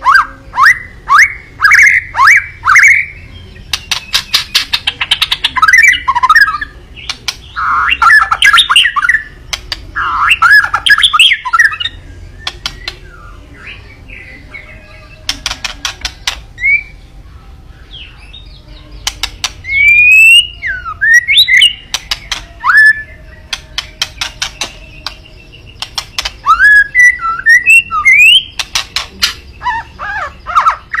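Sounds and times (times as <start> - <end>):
bird warbling song: 0.0 - 31.0.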